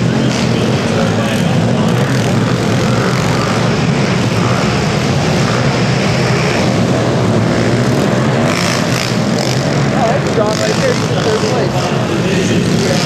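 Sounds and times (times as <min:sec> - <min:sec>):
pit bike engines droning: 0:00.0 - 0:13.0.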